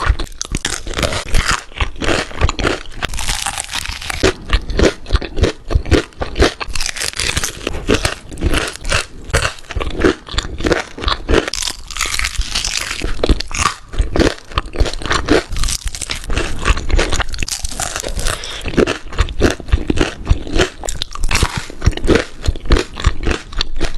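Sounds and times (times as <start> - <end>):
chewing crunchy food: 0.0 - 23.9
wet mouth sounds: 0.0 - 23.9.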